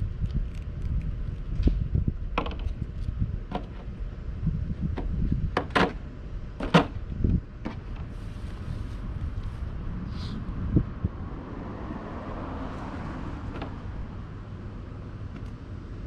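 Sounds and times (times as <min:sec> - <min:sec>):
wind rumble on microphone: 0:00.0 - 0:15.3.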